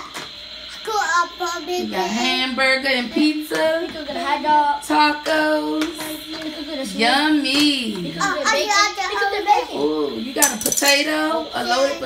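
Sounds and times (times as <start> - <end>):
child singing: 0.9 - 10.3, 11.0 - 12.0.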